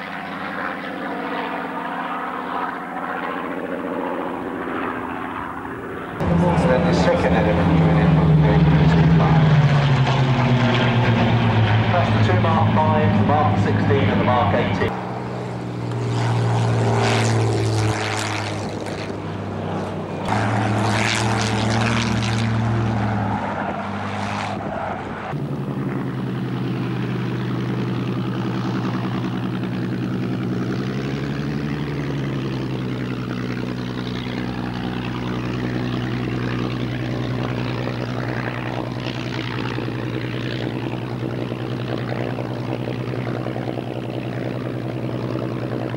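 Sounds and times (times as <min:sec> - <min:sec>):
aircraft engine running on ground: 0:00.0 - 0:45.9
propeller plane flying past: 0:00.0 - 0:45.9.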